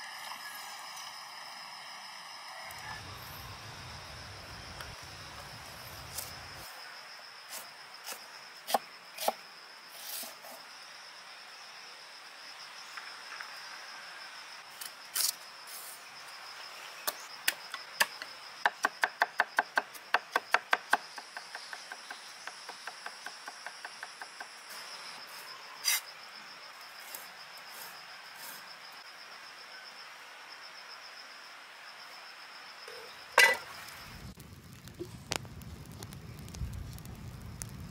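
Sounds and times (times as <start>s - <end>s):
insects buzzing: 0.0s - 37.9s.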